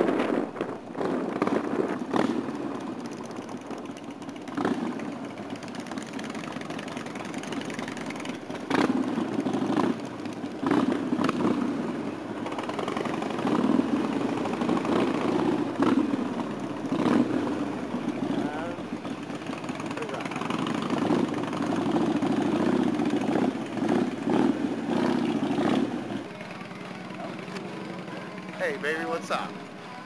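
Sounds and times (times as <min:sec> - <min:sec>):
motorcycle engine idling: 0:01.0 - 0:30.0.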